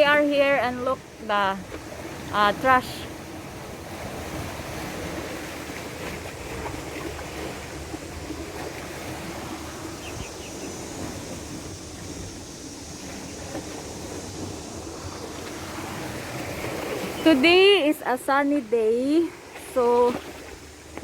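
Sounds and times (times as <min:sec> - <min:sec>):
sea surf washing on beach: 0:00.0 - 0:21.0
wind rumbling on microphone: 0:00.0 - 0:21.0.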